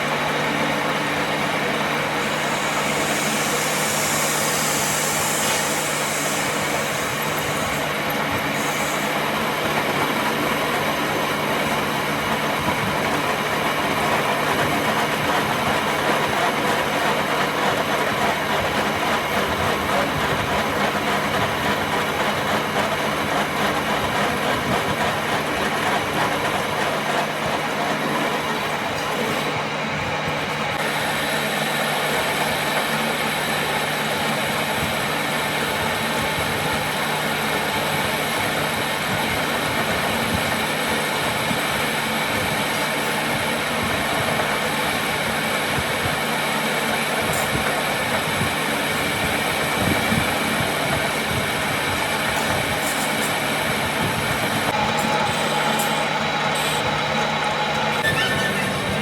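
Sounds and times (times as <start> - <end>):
workshop machine hiss and hum: 0.0 - 59.0.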